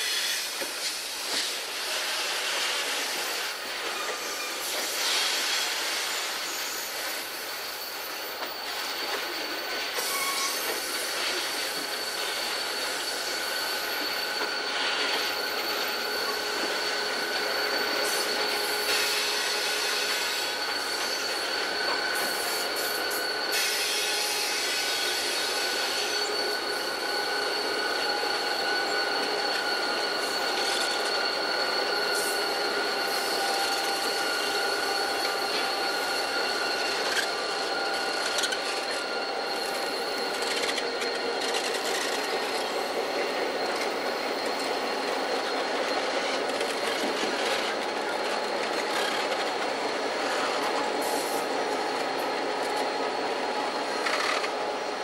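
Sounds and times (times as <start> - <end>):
diesel locomotives running: 0.0 - 55.0
wheel flanges squealing on rail: 0.0 - 55.0.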